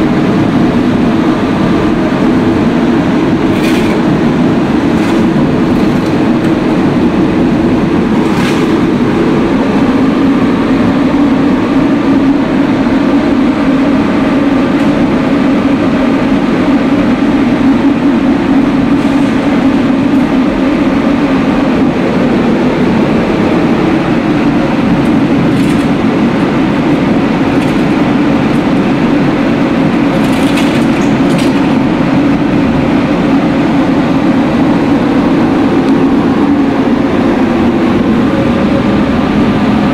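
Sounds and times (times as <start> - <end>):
burner fan and flame rumbling: 0.0 - 39.9.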